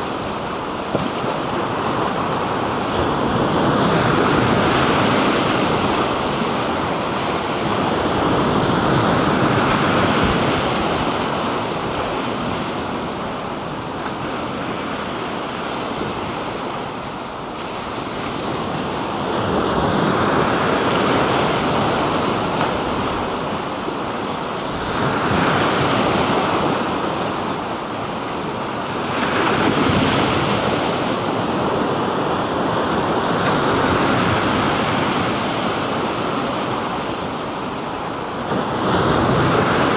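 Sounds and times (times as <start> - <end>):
waves breaking ashore: 0.0 - 39.9.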